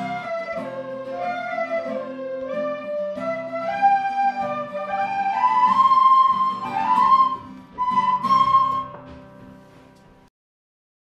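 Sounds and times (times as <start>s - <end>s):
instrumental background music: 0.0s - 10.3s.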